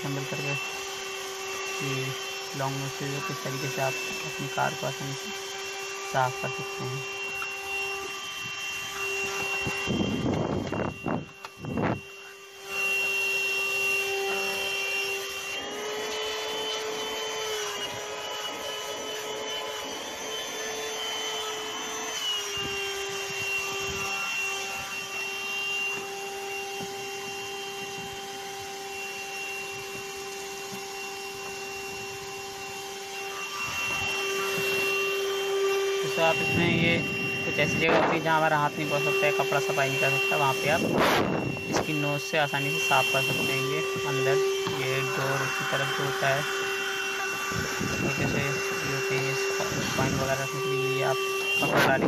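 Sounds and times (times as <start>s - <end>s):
handheld vacuum cleaner whine: 0.0s - 52.0s.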